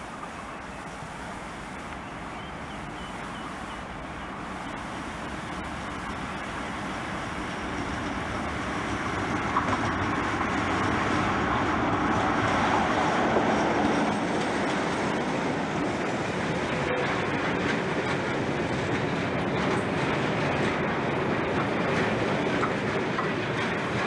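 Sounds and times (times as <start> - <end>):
diesel locomotive engine: 0.0 - 24.0
train running noise: 0.0 - 24.0.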